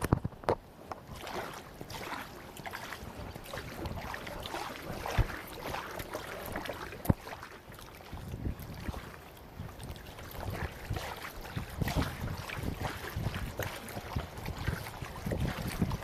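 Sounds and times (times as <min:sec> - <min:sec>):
water splashing around kayak: 0:00.0 - 0:16.0.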